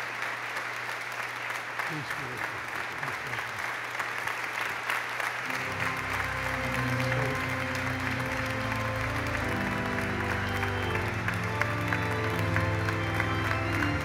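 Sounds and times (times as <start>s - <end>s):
congregation applauding: 0.0s - 14.0s.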